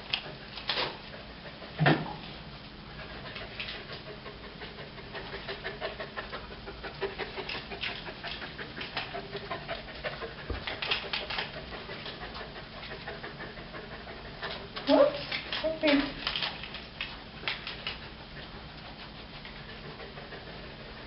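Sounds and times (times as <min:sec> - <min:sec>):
dog panting: 0:00.1 - 0:21.0.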